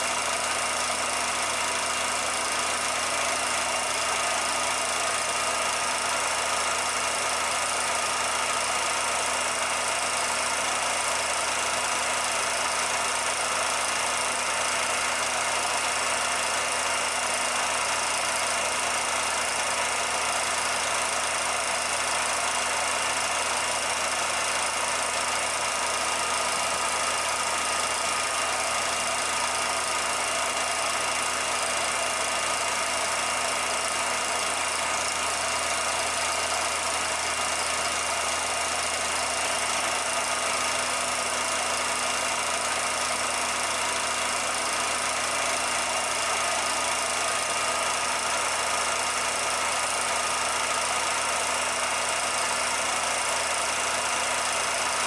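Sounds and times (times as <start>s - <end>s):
film projector whirring: 0.0s - 55.0s.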